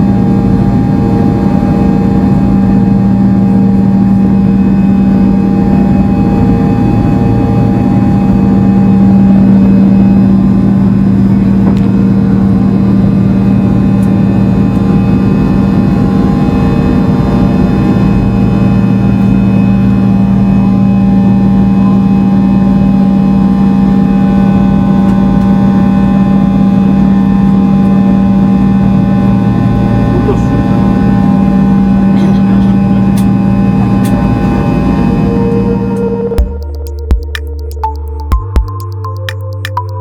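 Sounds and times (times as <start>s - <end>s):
jet engine buzz in cabin: 0.0s - 38.7s.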